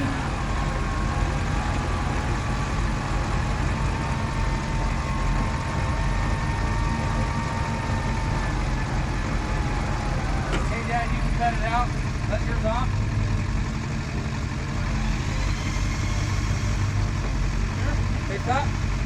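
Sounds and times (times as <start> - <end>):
vehicle engine running: 0.0 - 19.0
winch whine: 0.0 - 19.0.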